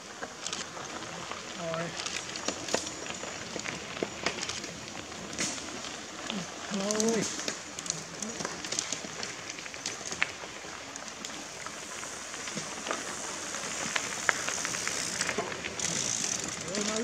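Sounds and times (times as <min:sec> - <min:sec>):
bike tyres crunching on gravel: 0:00.0 - 0:17.0.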